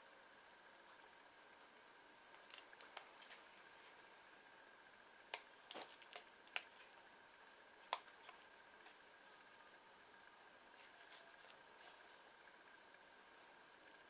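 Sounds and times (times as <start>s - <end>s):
high-pitched hum: 0.0s - 14.0s.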